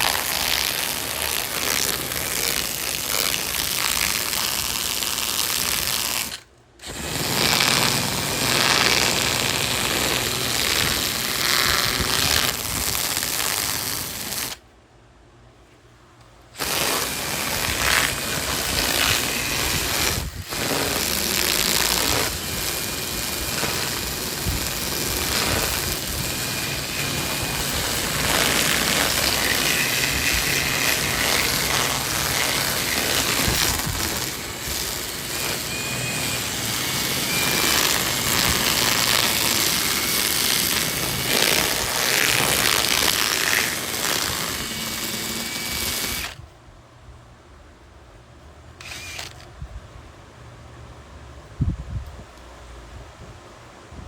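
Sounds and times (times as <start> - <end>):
power carving tool cutting wood: 0.0 - 14.6, 16.6 - 46.4, 48.8 - 49.4.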